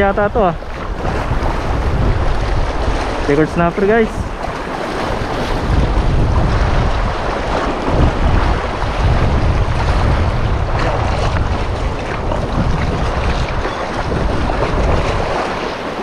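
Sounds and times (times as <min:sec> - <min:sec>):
surf on the shore: 0:00.0 - 0:16.0
wind buffeting microphone: 0:00.0 - 0:16.0.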